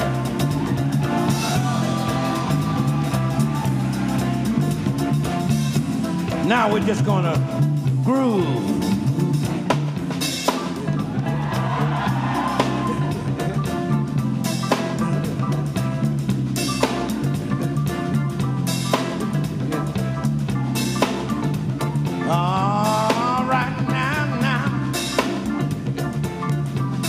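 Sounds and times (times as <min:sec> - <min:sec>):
drum kit with cymbal crashes: 0:00.0 - 0:27.0
electric bass line: 0:00.0 - 0:27.0
guitar: 0:00.0 - 0:27.0.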